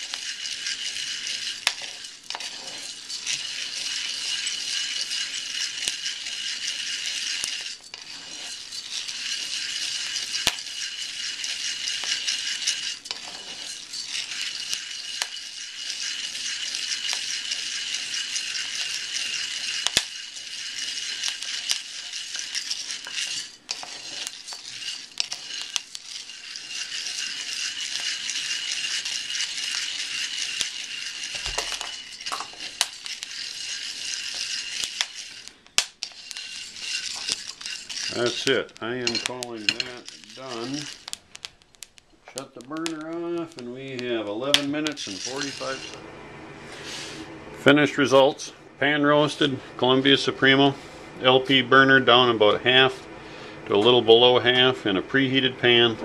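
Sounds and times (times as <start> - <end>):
coffee beans rattling in pan: 0.0 - 46.1, 53.8 - 56.0.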